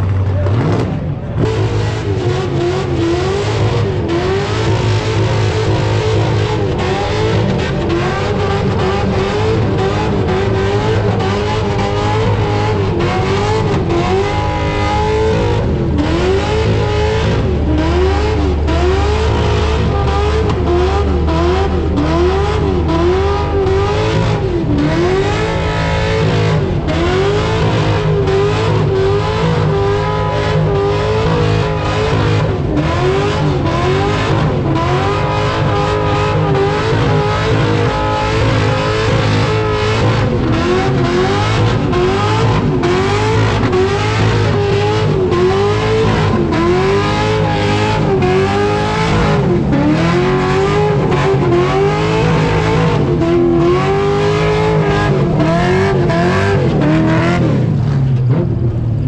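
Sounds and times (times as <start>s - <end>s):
car engine revving high: 0.0s - 59.0s.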